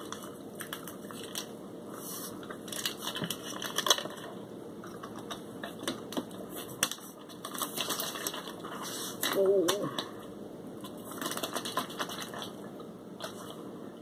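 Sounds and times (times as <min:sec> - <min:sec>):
paper packet crinkling: 0:00.0 - 0:10.1, 0:10.8 - 0:12.6.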